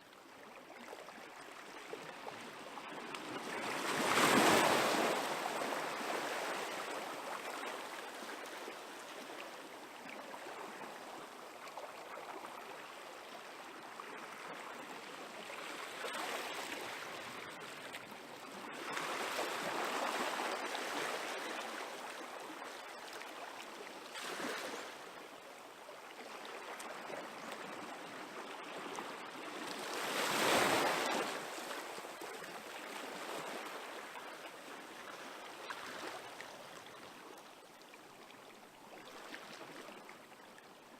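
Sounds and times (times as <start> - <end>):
small waves washing onto shore: 0.2 - 40.9.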